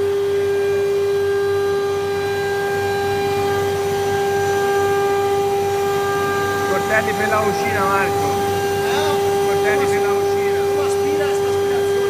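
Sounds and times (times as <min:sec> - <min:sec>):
low hum: 0:00.0 - 0:12.0
machine whine: 0:00.0 - 0:12.0.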